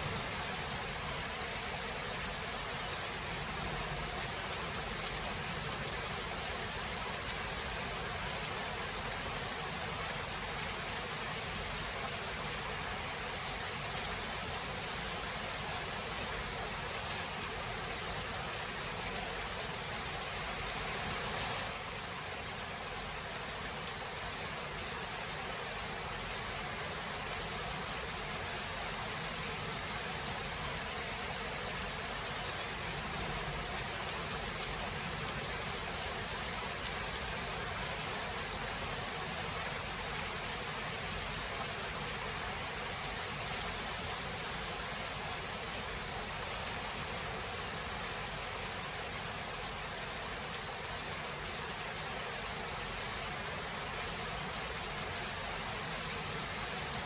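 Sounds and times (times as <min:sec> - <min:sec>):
steady rainfall hiss: 0:00.0 - 0:57.0.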